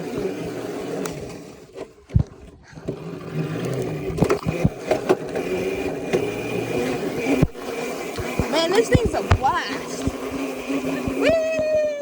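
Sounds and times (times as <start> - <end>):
mini bike motor running: 0.0 - 12.0.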